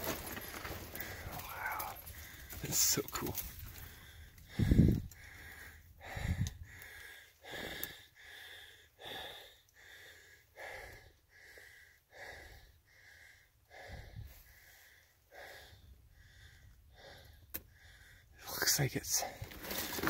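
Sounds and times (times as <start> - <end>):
person breathing hard: 0.1 - 2.6, 3.5 - 18.4.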